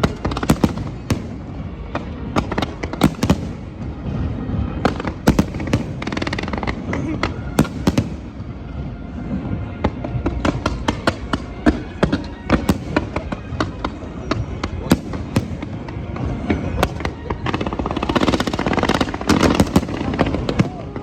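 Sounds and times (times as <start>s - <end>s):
fireworks crackling: 0.0s - 21.0s
fireworks exploding: 0.0s - 21.0s.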